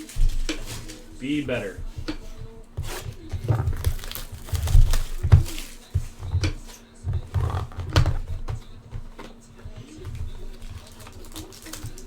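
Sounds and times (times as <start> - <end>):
thuds on cardboard box: 0.0 - 11.0
card packs rustling: 0.0 - 12.0.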